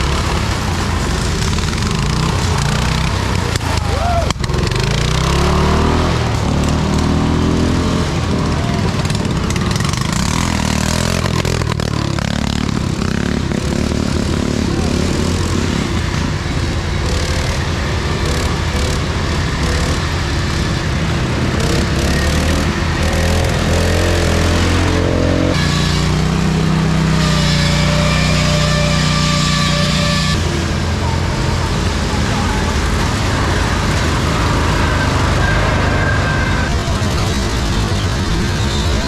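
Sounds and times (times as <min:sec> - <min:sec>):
racing lawn mower engines: 0:00.0 - 0:39.0.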